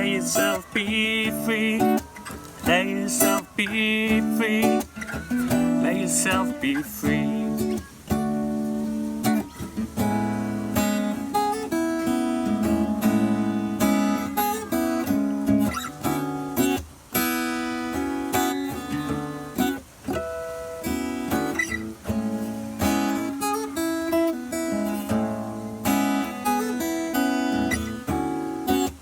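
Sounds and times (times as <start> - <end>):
acoustic guitar strummed and picked: 0.0 - 29.0.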